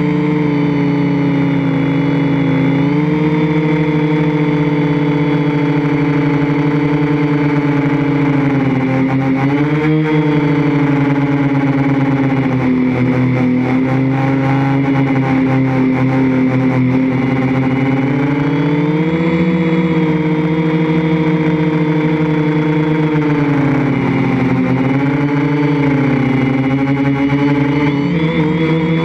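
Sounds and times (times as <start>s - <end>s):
drone motors and propellers whining: 0.0s - 29.0s.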